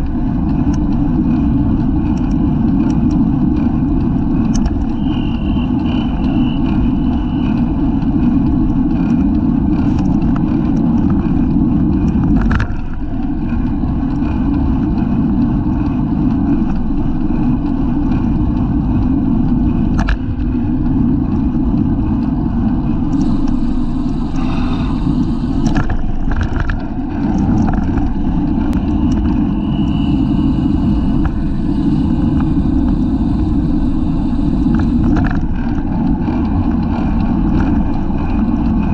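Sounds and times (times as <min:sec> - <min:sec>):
road noise: 0:00.0 - 0:38.9
wind buffeting microphone: 0:00.0 - 0:38.9.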